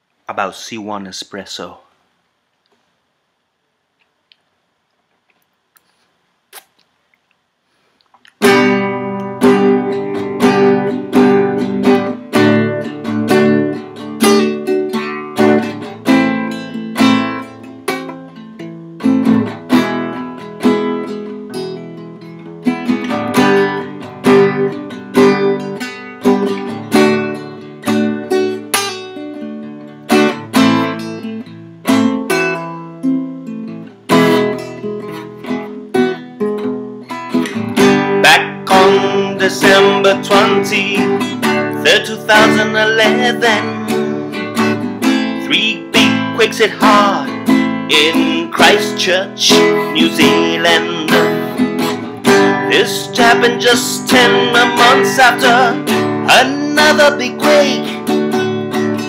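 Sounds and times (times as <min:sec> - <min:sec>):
acoustic guitar strummed chords: 0:08.4 - 0:59.0.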